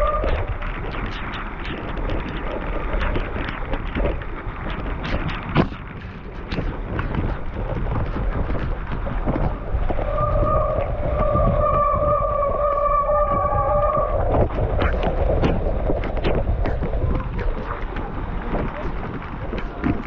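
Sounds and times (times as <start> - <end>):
mountain bike rattling on dirt trail: 0.0 - 20.0
wind buffeting microphone: 0.0 - 20.0.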